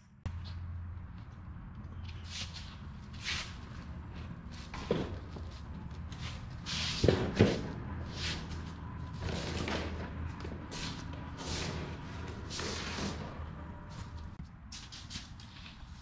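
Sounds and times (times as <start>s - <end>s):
shuffling feet: 0.3s - 16.0s.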